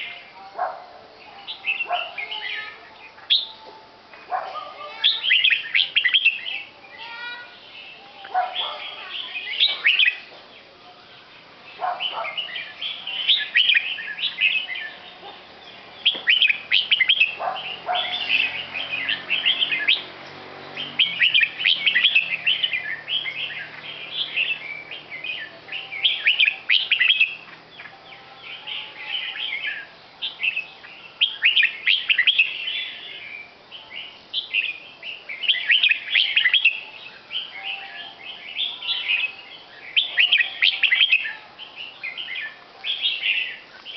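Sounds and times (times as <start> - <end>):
bird chirping in sharp bursts: 4.3 - 10.3, 11.4 - 43.9.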